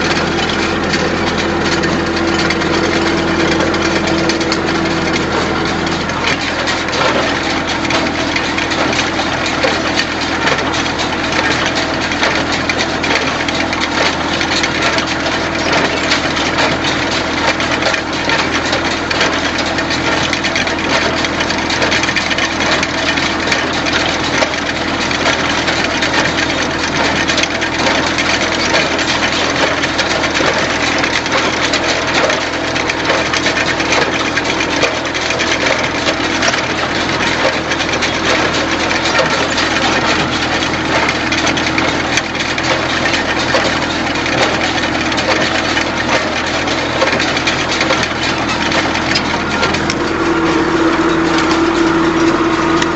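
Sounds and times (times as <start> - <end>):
baler rattling and clicking: 0.0 - 52.9
tractor engine running: 0.0 - 52.9.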